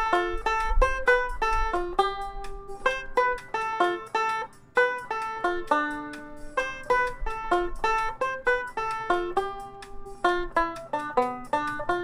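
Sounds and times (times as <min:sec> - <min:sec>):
banjo melody: 0:00.0 - 0:12.0.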